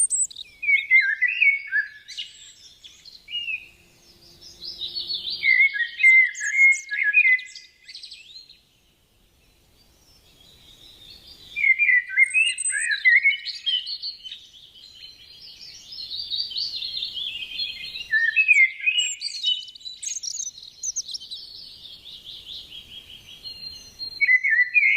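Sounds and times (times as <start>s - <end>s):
birds singing: 0.0s - 24.9s.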